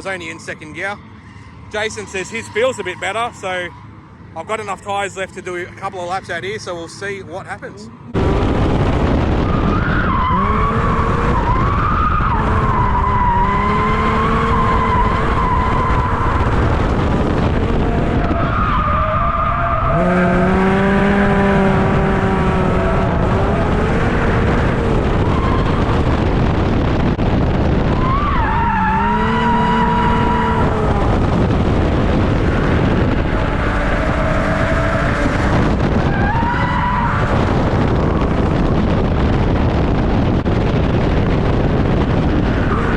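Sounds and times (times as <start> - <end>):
car engine revving high: 7.7 - 42.9
wind noise: 8.0 - 42.9.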